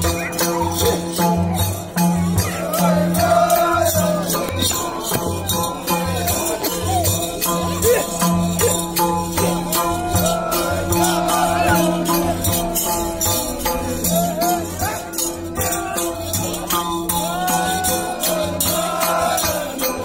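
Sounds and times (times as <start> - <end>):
jingling percussion: 0.0 - 20.0
people singing together: 0.0 - 20.0
barrel drums beating: 0.2 - 17.5.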